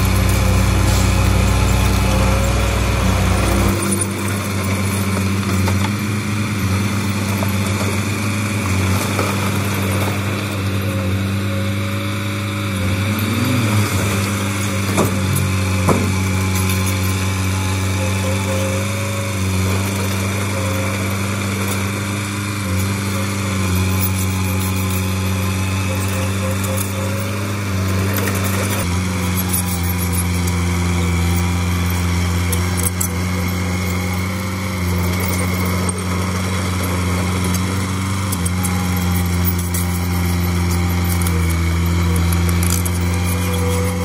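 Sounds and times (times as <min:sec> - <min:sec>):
bulldozer diesel engine running: 0:00.0 - 0:44.0.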